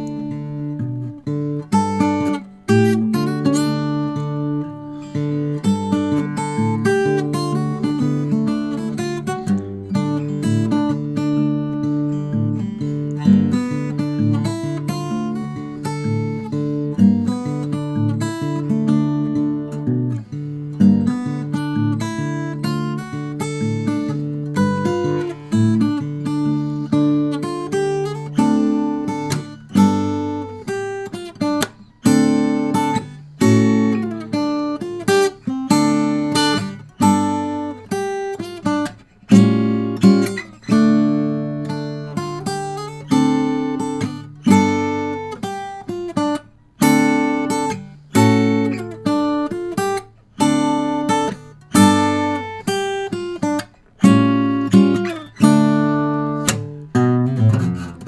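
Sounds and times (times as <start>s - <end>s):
fingerstyle acoustic guitar: 0.0s - 58.0s.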